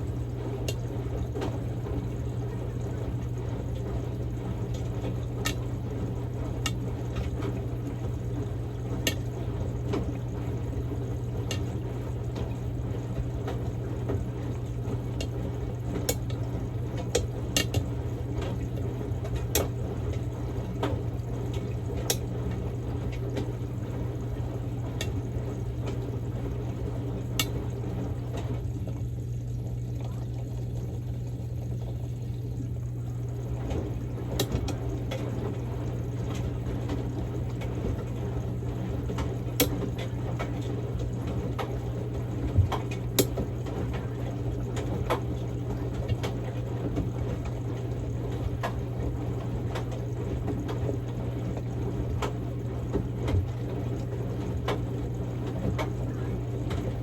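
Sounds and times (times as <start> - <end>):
low motor hum: 0.0 - 57.0
water sloshing in drum: 0.0 - 57.0.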